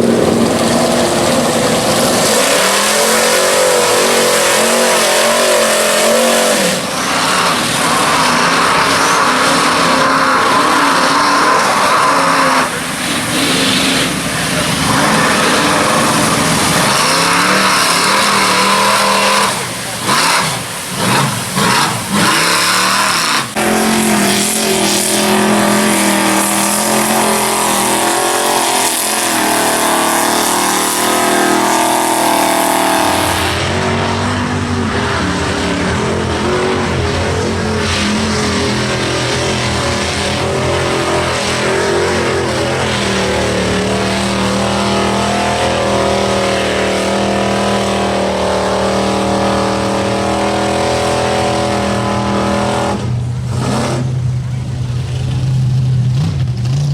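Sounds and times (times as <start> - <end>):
truck engines revving: 0.0 - 56.9.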